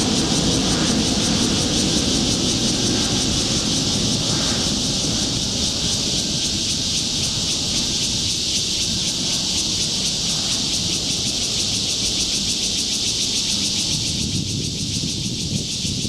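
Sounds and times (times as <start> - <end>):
jet engine high hiss: 0.0 - 16.0
jet engine low rumble: 0.0 - 16.0.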